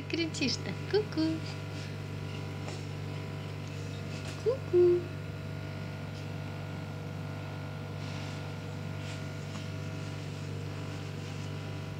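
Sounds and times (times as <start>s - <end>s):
low background hum: 0.0s - 11.9s.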